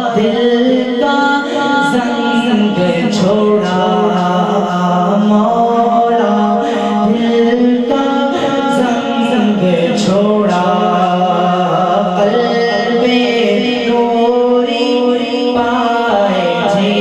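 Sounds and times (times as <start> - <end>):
man singing into microphone: 0.0 - 17.0.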